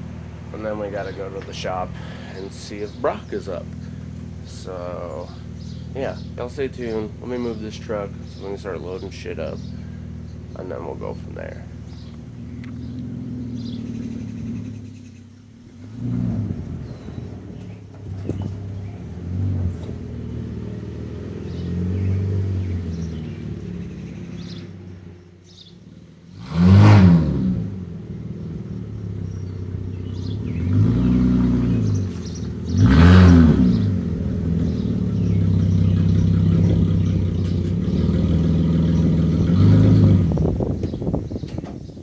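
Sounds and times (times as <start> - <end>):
pickup truck engine revving: 0.0 - 41.6.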